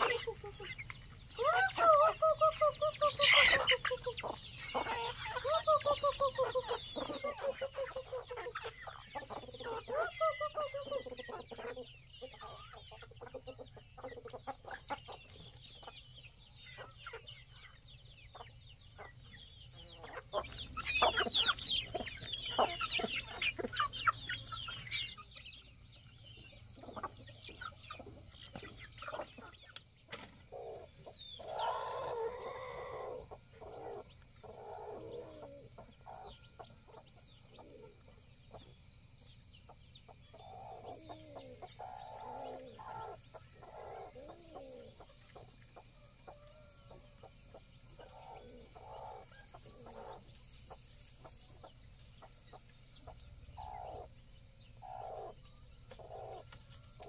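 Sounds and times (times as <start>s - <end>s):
chickens clucking and calling: 0.0s - 57.0s.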